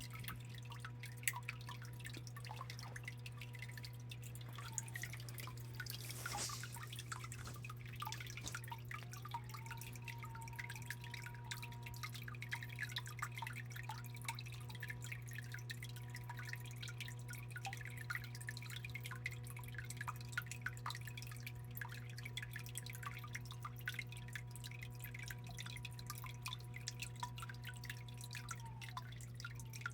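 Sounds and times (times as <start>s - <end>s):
water trickling and dripping: 0.0s - 29.9s.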